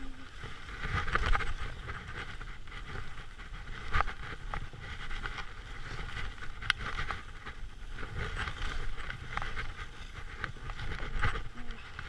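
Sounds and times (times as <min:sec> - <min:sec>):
skis scraping through soft snow: 0:00.0 - 0:12.0
wind rumbling on microphone: 0:00.0 - 0:12.0.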